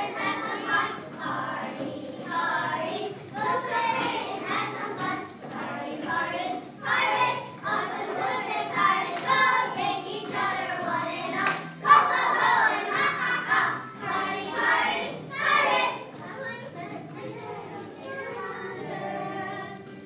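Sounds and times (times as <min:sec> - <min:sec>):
children singing together: 0:00.0 - 0:20.0.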